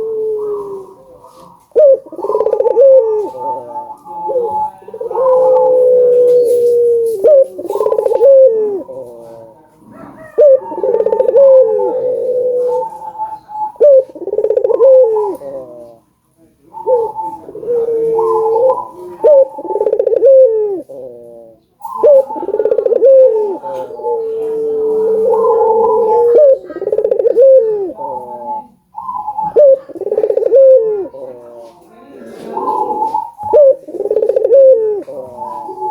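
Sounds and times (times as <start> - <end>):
dove cooing: 0.0 - 35.9.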